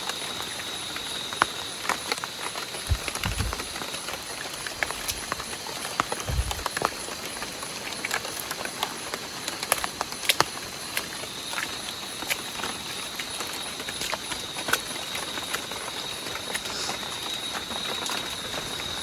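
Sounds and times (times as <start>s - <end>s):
rain falling: 0.4s - 19.0s
drips tapping on tarp: 1.9s - 18.7s.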